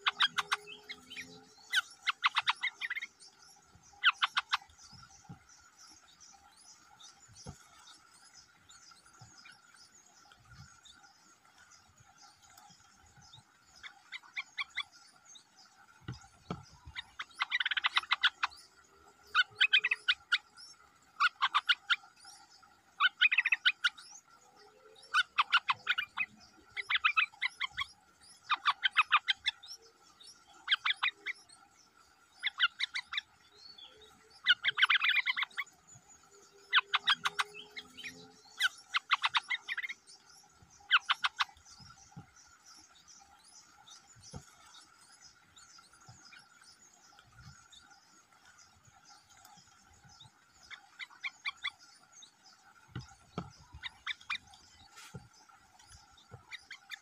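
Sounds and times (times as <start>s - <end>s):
nestlings chattering calls: 0.0s - 15.4s, 16.0s - 22.4s, 23.0s - 24.2s, 25.0s - 31.5s, 32.3s - 57.0s.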